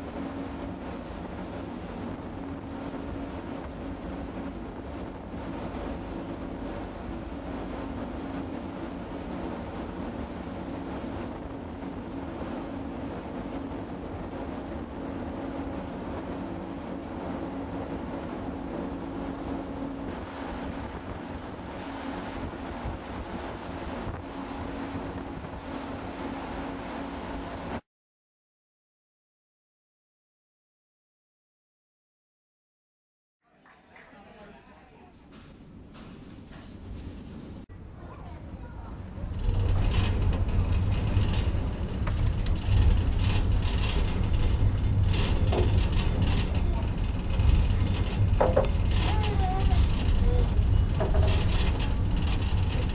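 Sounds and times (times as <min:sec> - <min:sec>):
ferry engines droning: 0:00.0 - 0:27.8, 0:35.3 - 0:52.9
low rumble of ship hull: 0:00.0 - 0:27.8, 0:35.2 - 0:52.9.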